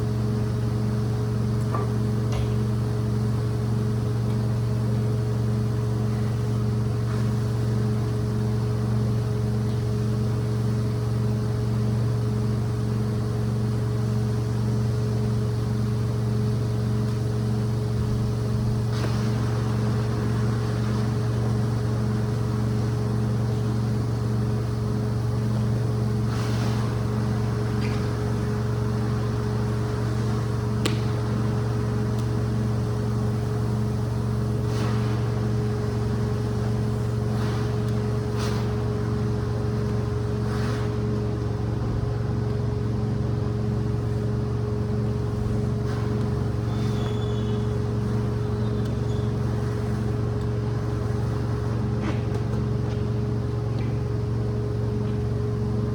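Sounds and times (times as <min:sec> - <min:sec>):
rug-cleaning machine motor drone: 0:00.0 - 0:55.9.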